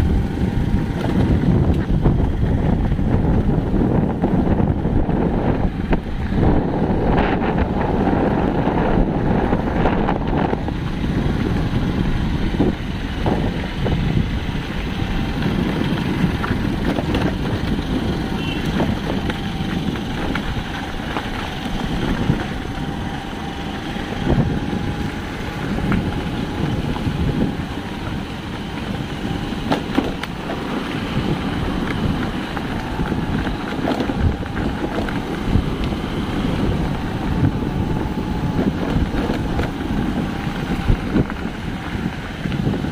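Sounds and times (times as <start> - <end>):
vehicle running: 0.0 - 42.9
wind rumble on microphone: 0.0 - 42.9.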